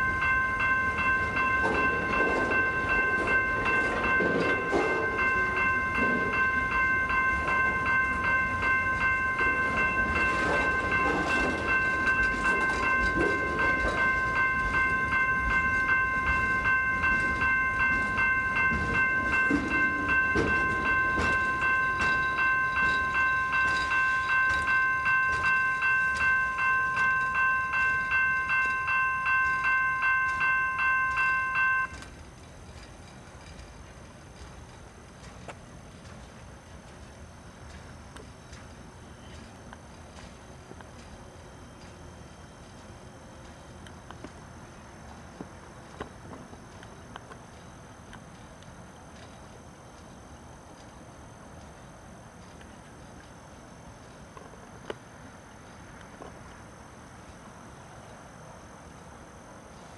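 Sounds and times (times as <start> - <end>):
pulsing high-pitched ringing: 0.0 - 35.3, 36.0 - 59.9
train cars rolling on rails: 0.0 - 59.9.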